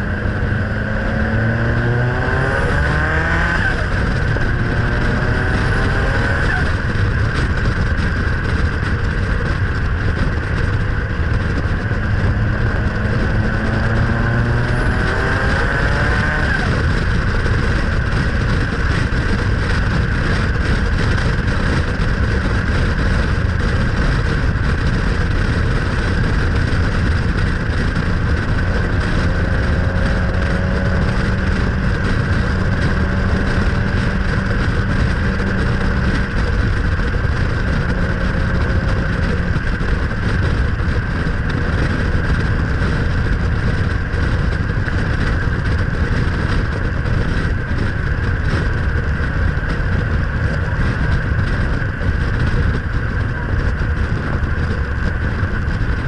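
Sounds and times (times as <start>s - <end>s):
low steady engine note: 0.0s - 56.0s
tyre and road noise: 0.0s - 56.0s
wind rushing over microphone: 0.0s - 56.0s.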